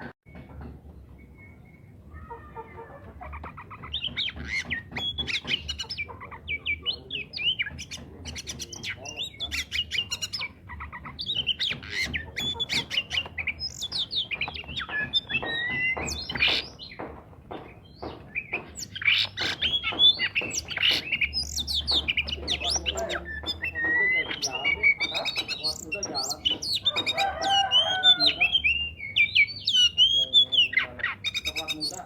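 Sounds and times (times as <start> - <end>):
bird singing whistles and chirps: 1.0 - 2.2, 3.9 - 10.6, 11.2 - 17.0, 17.8 - 32.0.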